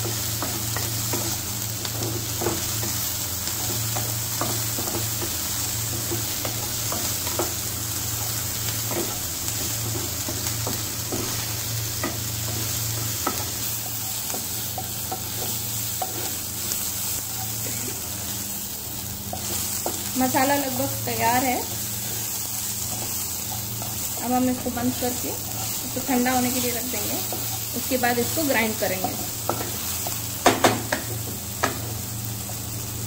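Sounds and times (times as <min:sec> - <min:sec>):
vegetables sizzling in hot oil: 0:00.0 - 0:33.0.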